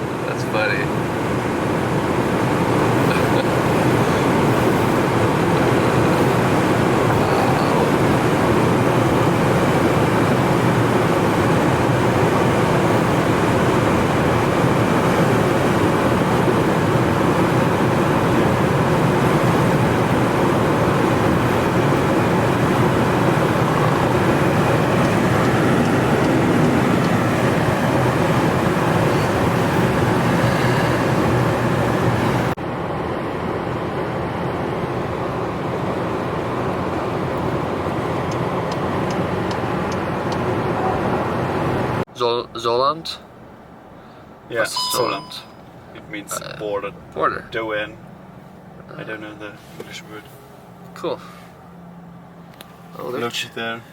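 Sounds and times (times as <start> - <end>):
car road and engine noise: 0.0 - 53.9.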